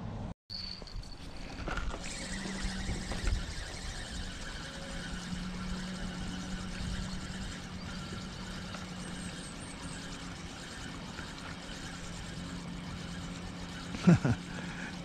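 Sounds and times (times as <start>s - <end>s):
distant engine humming: 0.8s - 15.0s.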